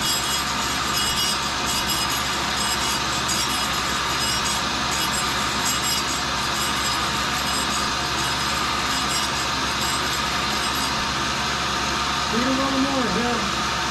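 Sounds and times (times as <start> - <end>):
grinding wheel hiss on steel: 0.0 - 12.2
motor hum: 0.0 - 13.9.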